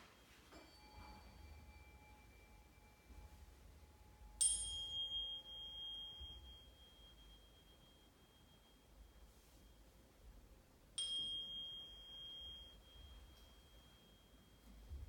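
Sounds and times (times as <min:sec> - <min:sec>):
singing bowl tone: 0:00.0 - 0:09.9, 0:11.0 - 0:15.0
high bell-like ring: 0:00.0 - 0:10.3, 0:10.9 - 0:15.0.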